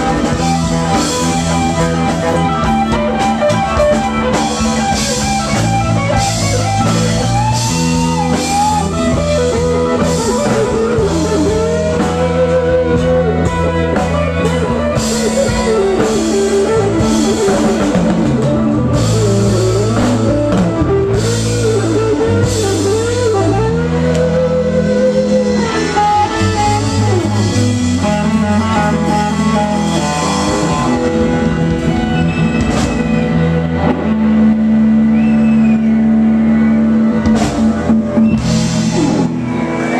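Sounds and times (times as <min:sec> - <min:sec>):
drum kit: 0:00.0 - 0:39.9
electric guitar lead: 0:00.0 - 0:39.9
guitar chords: 0:00.0 - 0:39.9.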